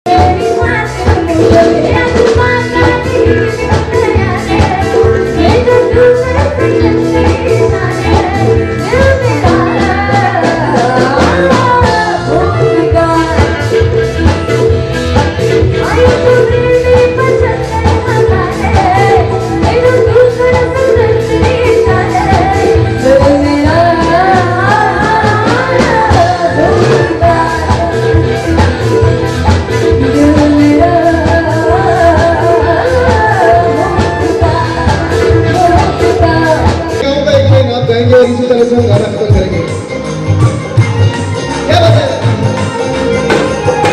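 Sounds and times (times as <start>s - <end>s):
amplified instrumental backing: 0.0s - 43.9s
drums keeping a beat: 0.0s - 43.9s
live band playing: 0.0s - 43.9s
woman singing into a microphone: 0.1s - 14.3s, 15.5s - 37.1s.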